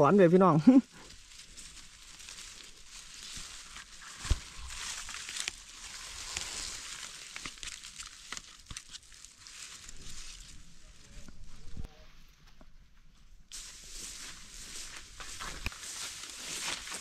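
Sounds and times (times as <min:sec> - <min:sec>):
rustling of grass and leaves: 0:00.0 - 0:17.0.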